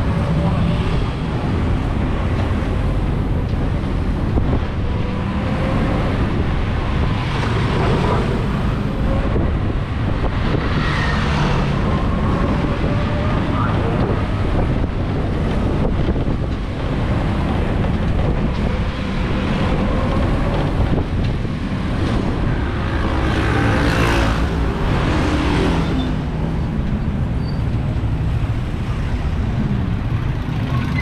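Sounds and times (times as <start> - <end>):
tyres and wind rumbling: 0.0 - 31.0.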